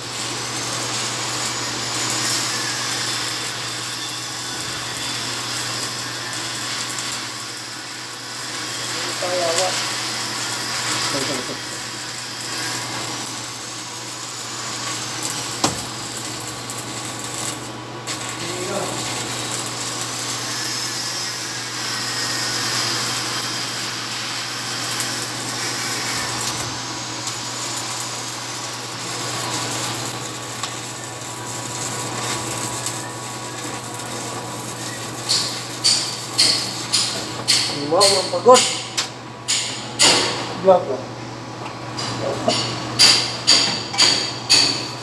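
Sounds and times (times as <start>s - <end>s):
welding arc crackling hiss: 0.0s - 45.0s
sharp welding pops: 0.6s - 40.6s, 41.7s - 45.0s.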